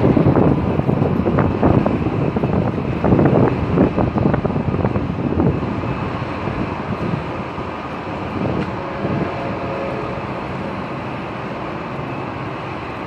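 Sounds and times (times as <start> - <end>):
train running on tracks: 0.0 - 13.0.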